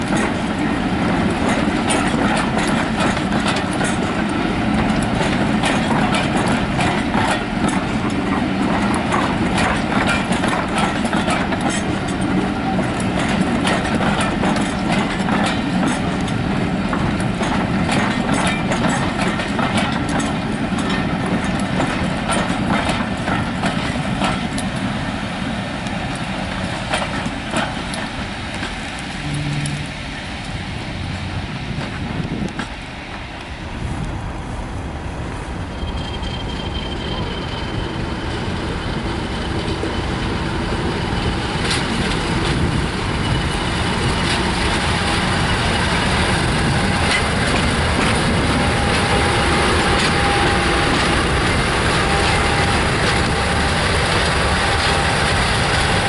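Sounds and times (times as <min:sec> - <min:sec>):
train wheels clicking over rail joints: 0:00.0 - 0:34.2, 0:35.3 - 0:56.0
diesel locomotive engine drone: 0:00.0 - 0:56.0.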